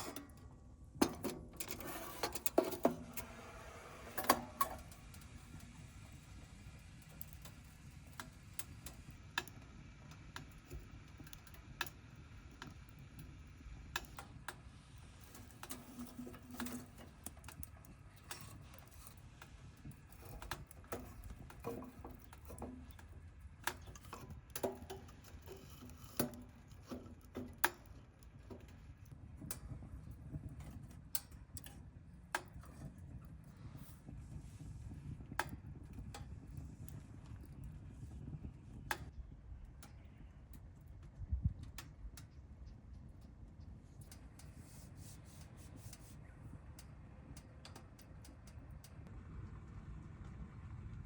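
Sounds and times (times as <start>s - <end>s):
firewood crackling in a stove: 0.0s - 51.0s
low steady rumble: 0.0s - 51.0s.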